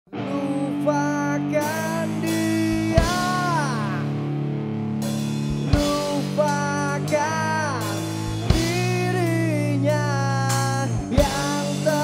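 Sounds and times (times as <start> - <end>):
punk rock band playing: 0.1 - 12.0.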